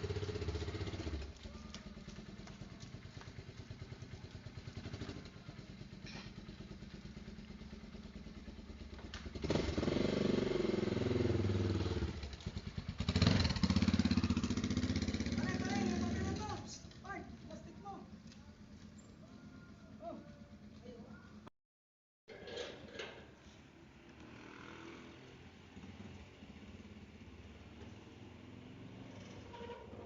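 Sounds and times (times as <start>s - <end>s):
motorcycle engine idling and revving: 0.0s - 21.5s, 23.1s - 30.0s.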